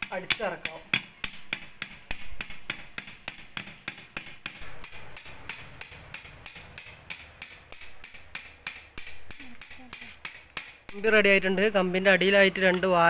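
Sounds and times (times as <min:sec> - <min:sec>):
hammer striking metal rod: 0:00.0 - 0:11.1.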